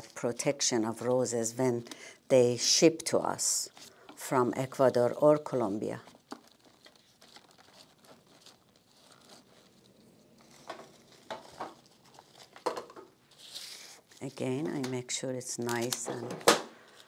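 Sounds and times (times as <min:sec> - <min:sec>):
rose petals rustling and tearing: 0:03.0 - 0:17.0.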